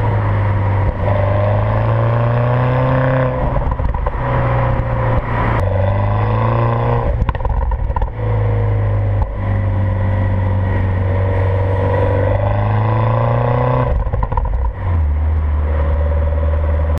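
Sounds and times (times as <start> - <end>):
car engine and exhaust accelerating: 0.0 - 17.0.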